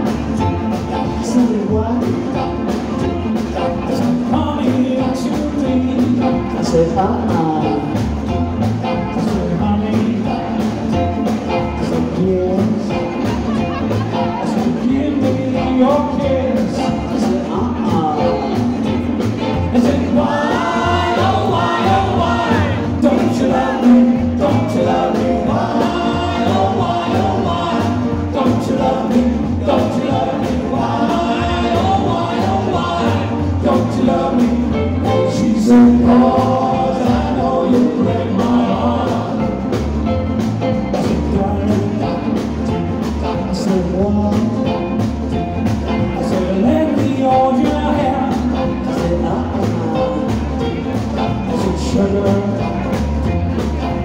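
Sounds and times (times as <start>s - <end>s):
male vocal group singing: 0.0s - 44.8s, 46.0s - 53.0s
live band playing: 0.0s - 54.0s.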